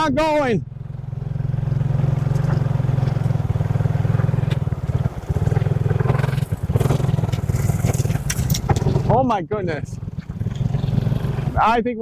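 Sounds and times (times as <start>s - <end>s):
motorcycle engine running hard: 0.0s - 12.0s.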